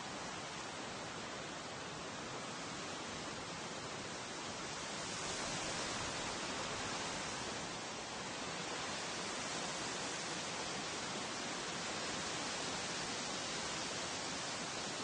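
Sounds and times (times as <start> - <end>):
wind rustling foliage: 0.0 - 15.0.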